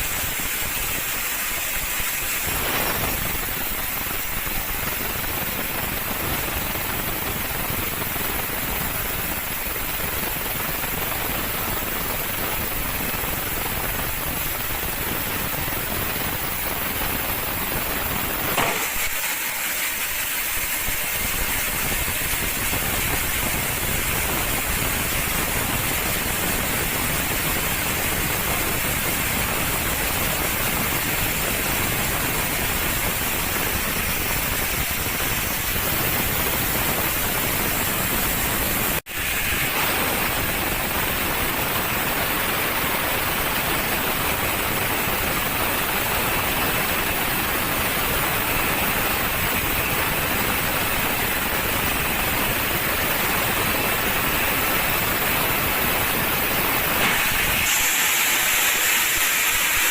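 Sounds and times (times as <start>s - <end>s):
sawmill machinery running: 0.0s - 7.4s, 14.5s - 44.8s, 46.4s - 59.9s.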